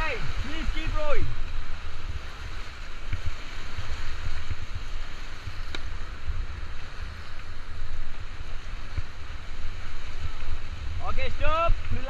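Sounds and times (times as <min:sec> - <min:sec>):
river water rushing and splashing: 0:00.0 - 0:12.0
wind buffeting on microphone: 0:00.0 - 0:12.0.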